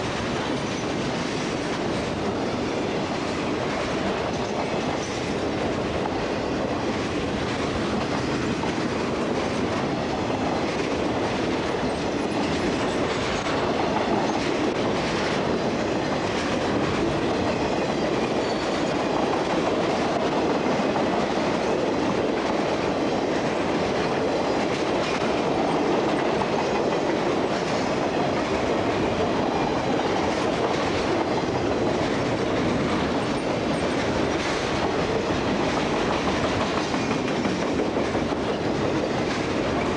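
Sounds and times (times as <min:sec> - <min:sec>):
freight train wheels clicking: 0:00.0 - 0:39.9.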